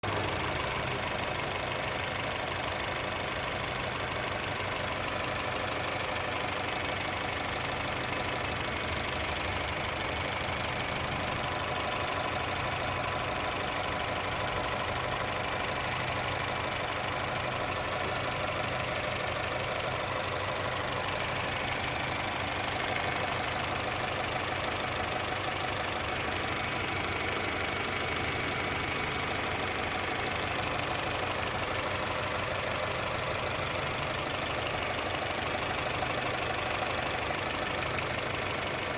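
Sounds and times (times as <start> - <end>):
car engine idling rough: 0.0 - 38.9.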